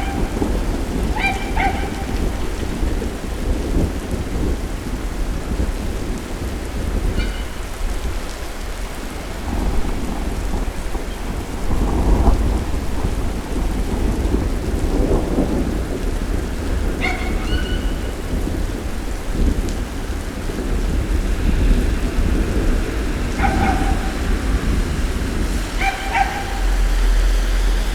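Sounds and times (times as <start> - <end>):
low rolling thunder: 0.0 - 27.9
steady rain falling: 0.0 - 27.9.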